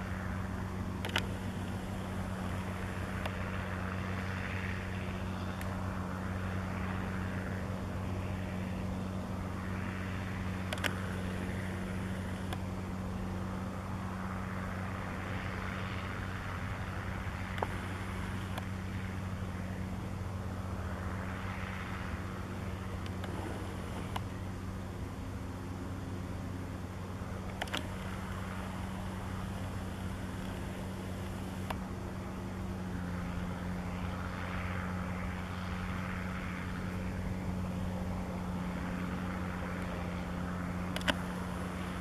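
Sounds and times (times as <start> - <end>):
tractor engine droning: 0.0 - 42.0.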